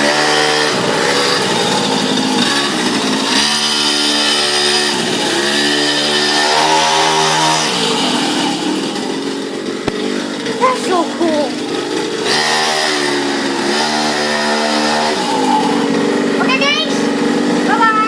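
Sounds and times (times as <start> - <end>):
small motorcycle engine revving: 0.0 - 18.0.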